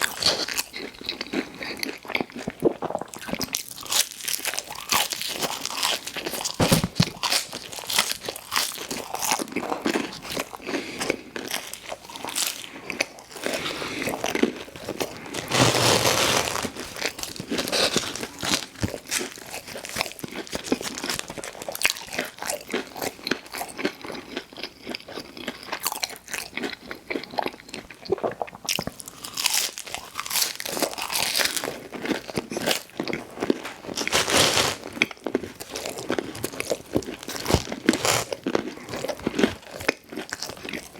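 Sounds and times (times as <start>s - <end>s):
crunchy bites: 2.8s - 25.0s, 28.7s - 40.9s.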